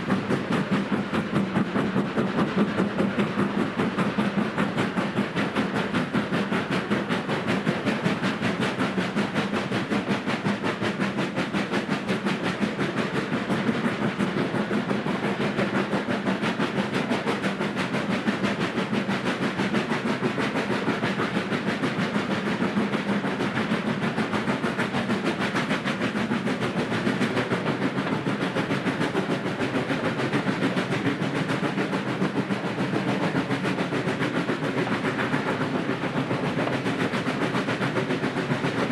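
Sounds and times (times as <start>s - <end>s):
steam locomotive exhaust beating: 0.0s - 38.9s.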